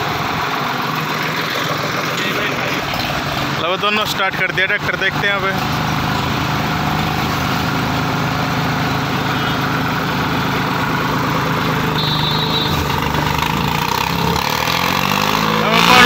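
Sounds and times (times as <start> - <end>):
diesel tractor engines under load: 0.0 - 16.0.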